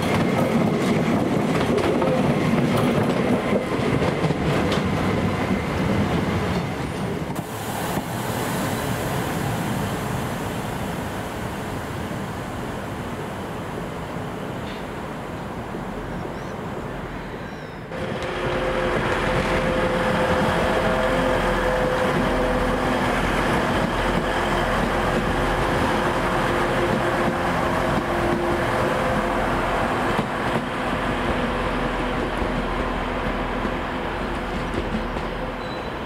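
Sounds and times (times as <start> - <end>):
train traction hum: 0.0 - 36.0.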